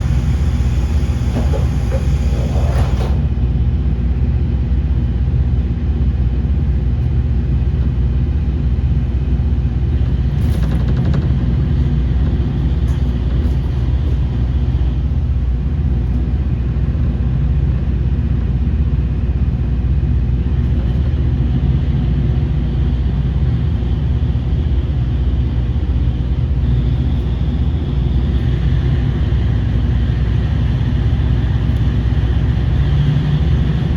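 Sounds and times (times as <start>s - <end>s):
diesel railcar engine droning: 0.0s - 33.9s.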